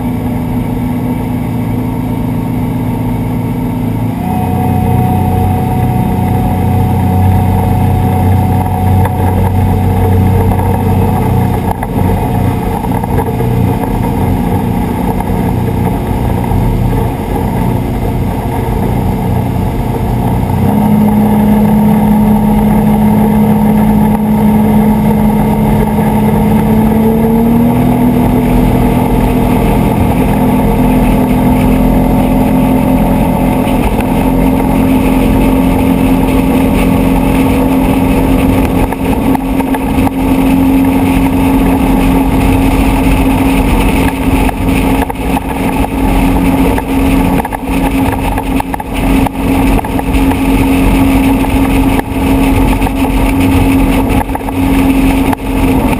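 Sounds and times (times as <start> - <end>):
outboard motor running: 0.0 - 55.9
rushing water noise: 0.0 - 55.9.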